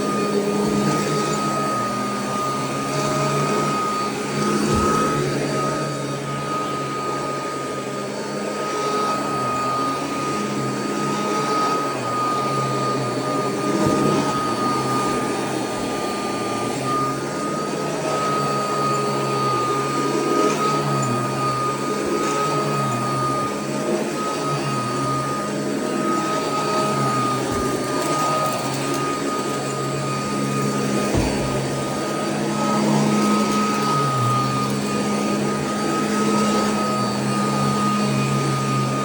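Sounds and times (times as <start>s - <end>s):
vacuum cleaner motor whine: 0.0s - 39.0s.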